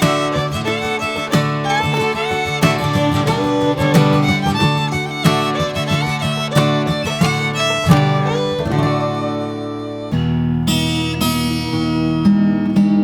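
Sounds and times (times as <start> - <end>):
fiddle and guitar music: 0.0 - 12.1.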